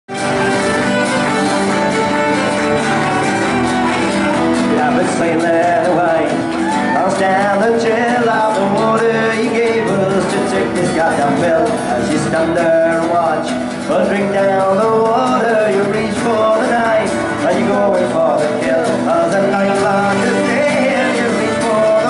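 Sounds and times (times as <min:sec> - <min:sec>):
acoustic guitars strummed: 0:00.1 - 0:22.0
man singing: 0:04.3 - 0:22.0.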